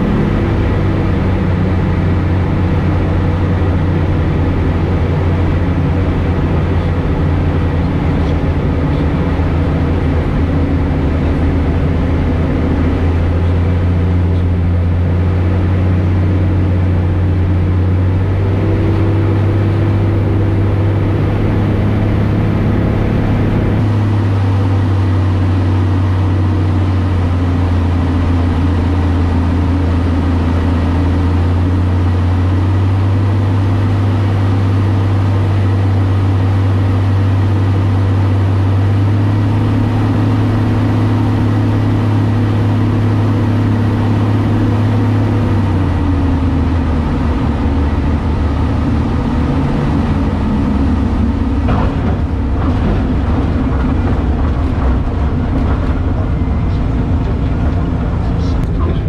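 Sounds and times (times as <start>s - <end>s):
plane engine and propeller droning: 0.0s - 59.0s.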